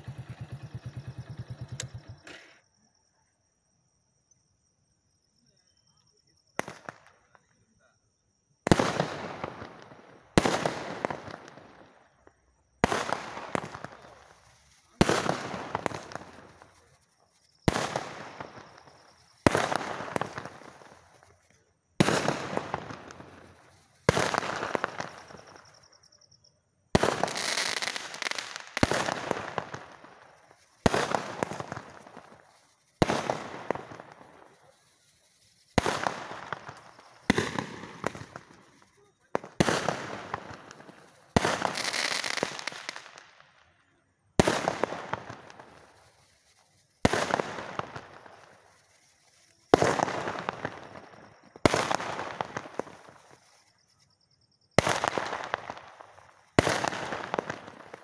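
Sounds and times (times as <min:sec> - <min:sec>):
firework bangs and crackling: 0:00.0 - 0:02.5, 0:06.5 - 0:07.5, 0:08.6 - 0:26.0, 0:26.9 - 0:43.6, 0:44.3 - 0:58.0.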